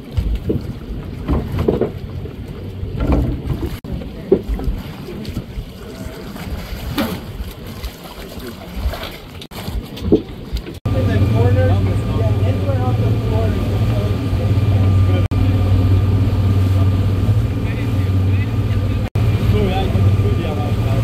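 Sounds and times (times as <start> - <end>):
low boat engine rumble: 0.0 - 21.0
rushing water: 0.0 - 21.0
wind buffeting microphone: 0.0 - 21.0.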